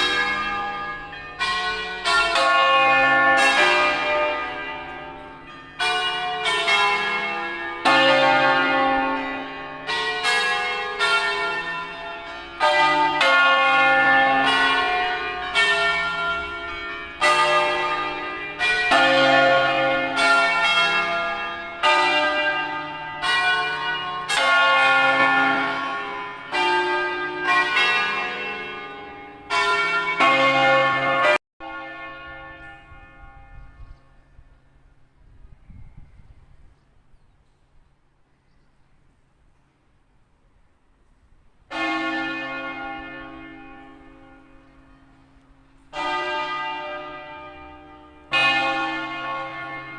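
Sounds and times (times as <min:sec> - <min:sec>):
church bells ringing: 0:00.0 - 0:36.1, 0:39.4 - 0:49.9.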